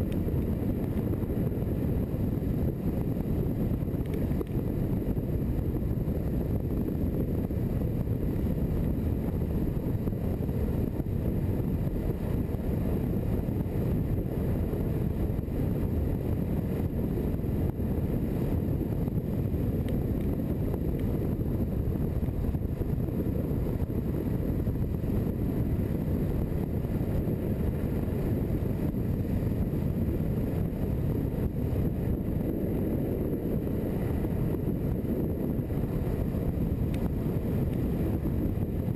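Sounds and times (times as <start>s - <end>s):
longboard wheels rolling on asphalt: 0.0s - 38.9s
wind buffeting microphone: 0.0s - 38.9s.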